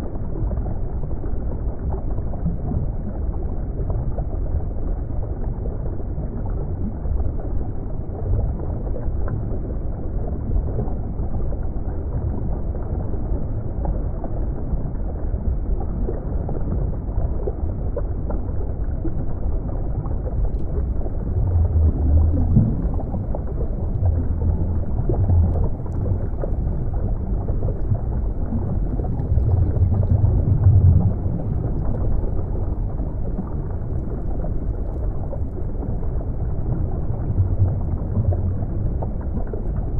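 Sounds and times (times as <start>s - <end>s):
underwater rumble of moving water: 0.0s - 39.9s.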